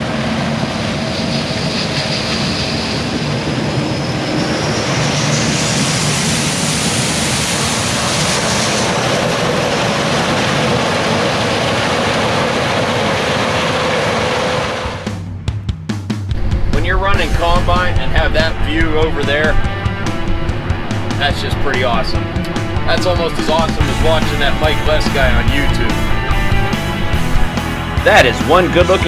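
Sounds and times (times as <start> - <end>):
combine engine and machinery noise: 0.0 - 15.3, 16.3 - 29.0
high whine: 0.0 - 15.6, 16.3 - 29.0.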